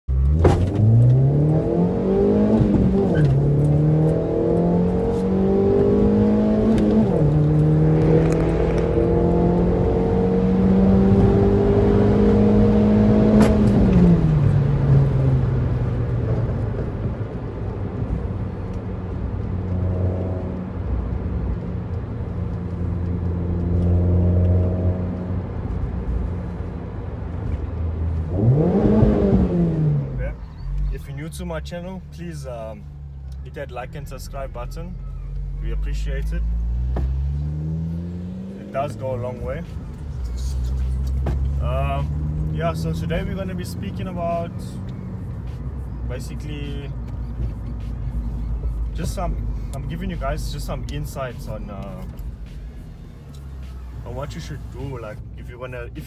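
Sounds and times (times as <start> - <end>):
car engine accelerating: 0.1 - 56.0.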